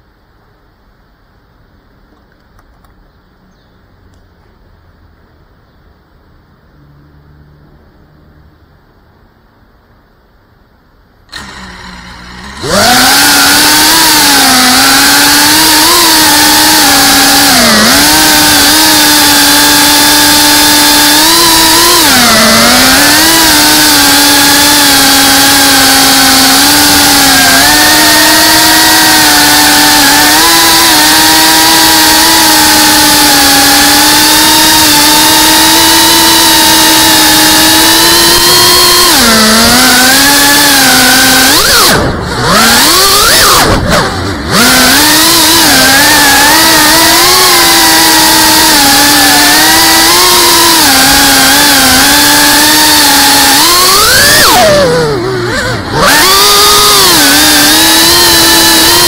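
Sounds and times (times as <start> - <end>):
drone motors whining: 11.3 - 59.0.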